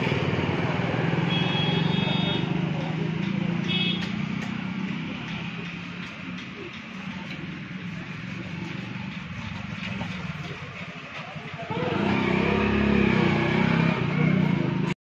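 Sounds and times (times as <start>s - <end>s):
motorcycle engine passing: 0.0s - 14.9s.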